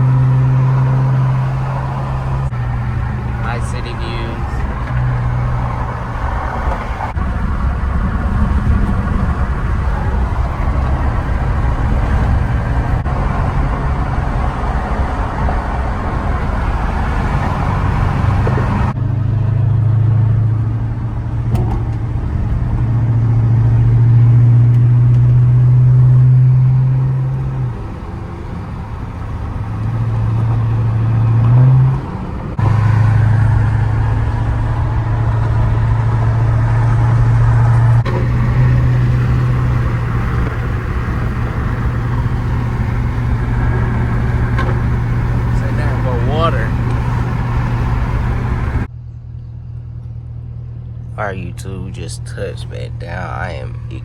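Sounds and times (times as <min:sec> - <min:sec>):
car engine and road noise in cabin: 0:00.0 - 0:54.0.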